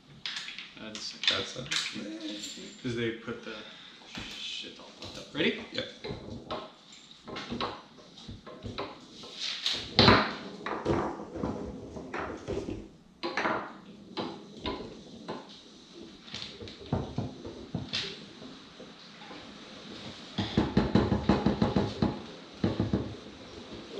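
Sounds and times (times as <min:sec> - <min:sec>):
foosball rods shifting: 0:00.1 - 0:02.9, 0:04.2 - 0:23.9
foosball ball clacking and knocking: 0:00.2 - 0:02.0, 0:06.0 - 0:23.9.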